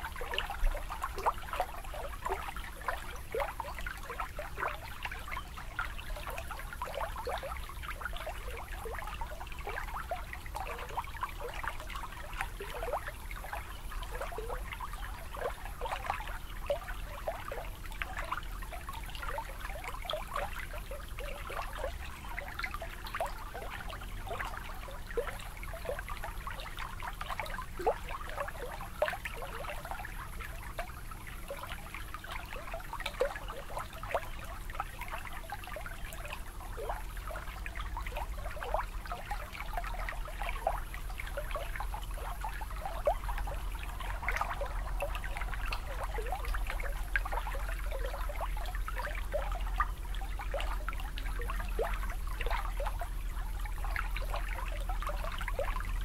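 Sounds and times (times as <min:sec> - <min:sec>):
shallow water lapping: 0:00.0 - 0:56.0.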